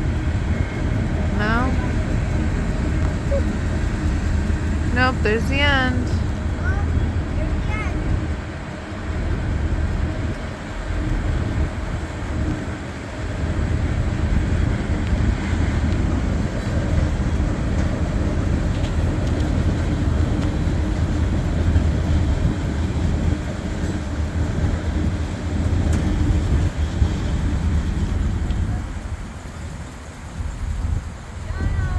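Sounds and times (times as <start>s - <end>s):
freight train cars rolling: 0.0s - 31.9s.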